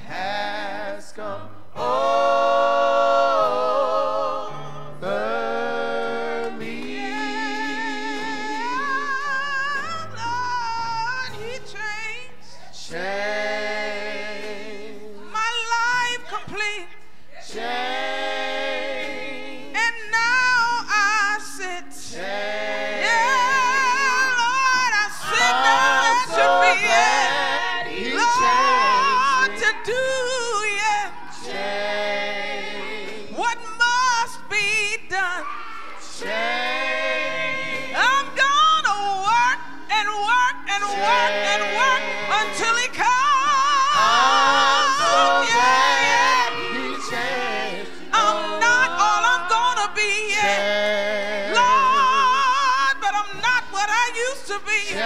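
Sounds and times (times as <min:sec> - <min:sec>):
choir singing a gospel song: 0:00.0 - 0:55.0.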